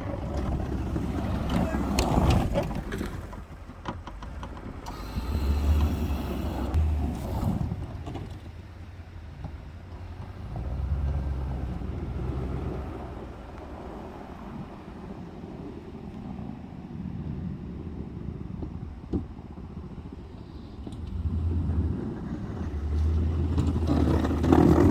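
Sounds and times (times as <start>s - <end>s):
pickup truck engine rumble: 0.0s - 24.9s.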